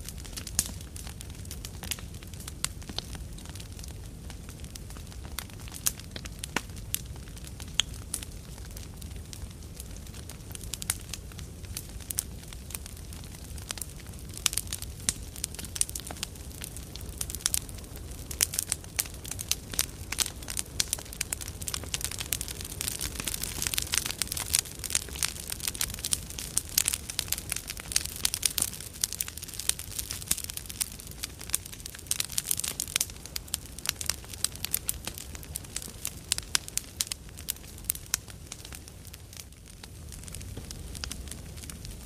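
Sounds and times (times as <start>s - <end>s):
campfire crackling and popping: 0.0s - 42.0s
low rumble of flame: 0.0s - 42.0s.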